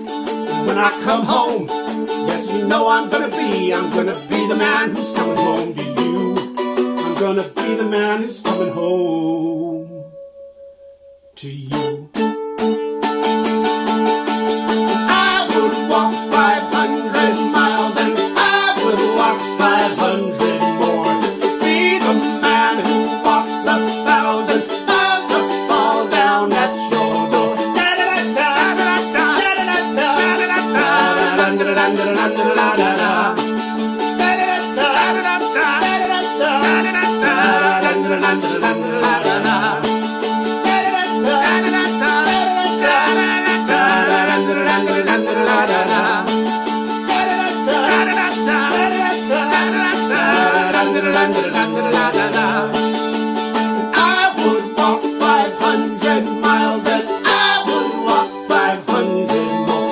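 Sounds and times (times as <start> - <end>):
man singing wordlessly: 0.0 - 10.1, 11.4 - 12.2, 15.0 - 53.0, 53.6 - 59.9
mandolin strummed: 0.0 - 59.9.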